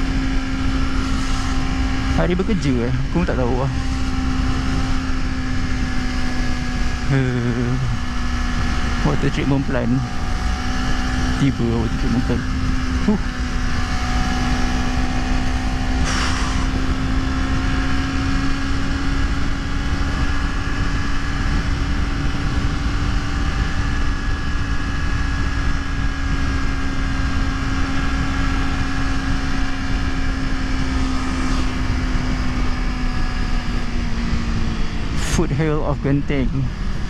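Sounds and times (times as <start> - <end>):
motorcycle engine at high revs: 0.0 - 37.0
wind rumble on microphone: 0.0 - 37.0.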